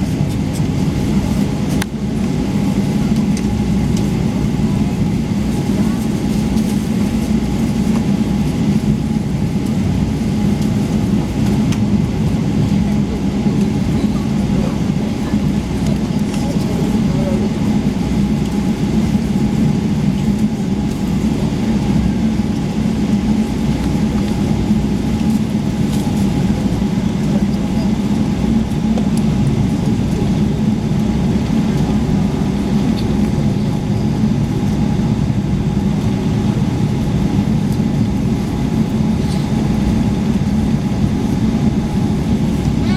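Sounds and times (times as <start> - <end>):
airplane cabin engine hum: 0.0 - 42.9.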